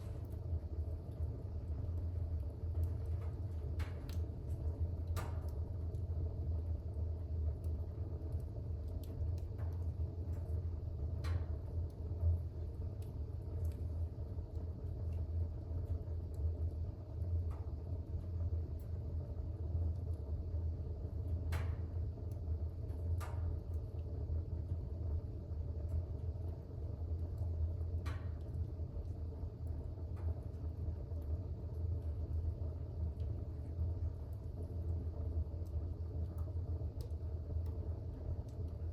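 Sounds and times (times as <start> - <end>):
fire crackling: 0.0 - 38.9
fire rumbling: 0.0 - 38.9.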